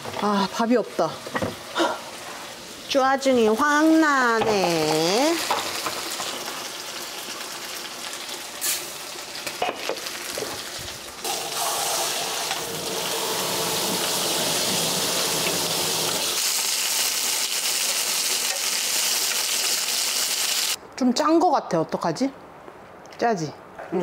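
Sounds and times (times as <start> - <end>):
meat sizzling in a frying pan: 0.2 - 20.8.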